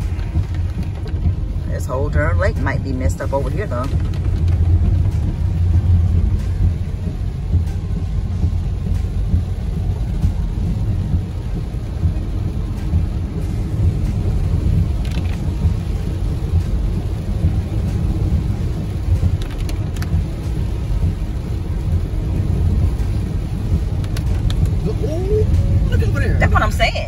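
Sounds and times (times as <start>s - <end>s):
vehicle road and engine rumble: 0.0s - 27.0s.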